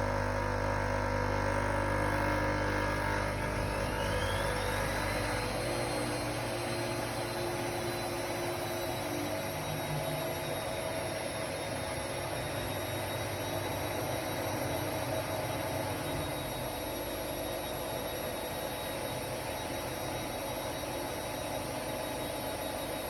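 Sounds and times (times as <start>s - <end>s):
high motor whine: 0.0s - 21.7s
washing machine whirring: 0.0s - 23.0s.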